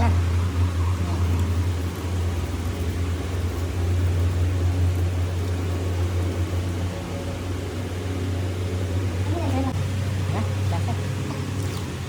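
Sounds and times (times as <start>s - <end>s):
machine humming with hiss: 0.0s - 12.0s.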